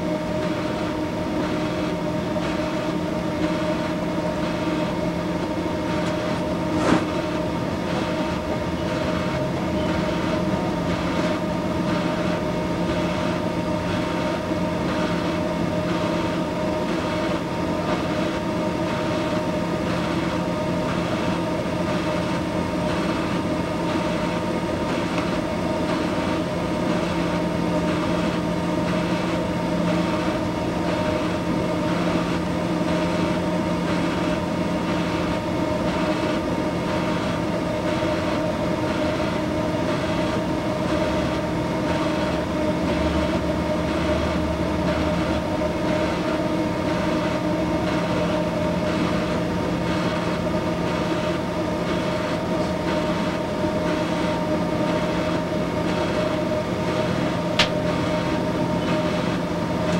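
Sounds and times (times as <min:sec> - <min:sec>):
welding machine hum and hiss: 0:00.0 - 0:59.9.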